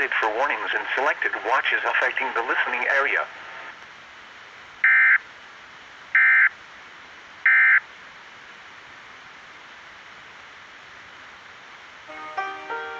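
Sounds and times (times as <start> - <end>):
radio hiss: 0.0 - 12.2.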